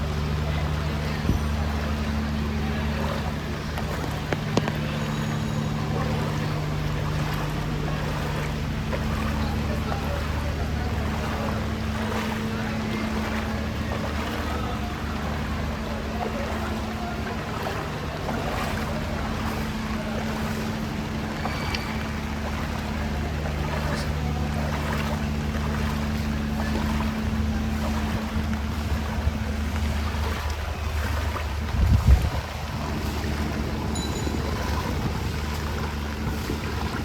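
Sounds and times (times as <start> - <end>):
engine humming: 0.0 - 37.0
flooded street noise: 0.0 - 37.0.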